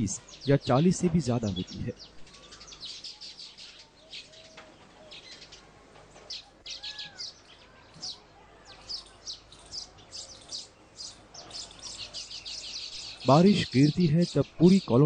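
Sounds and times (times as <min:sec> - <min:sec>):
birds chattering: 0:00.0 - 0:15.0.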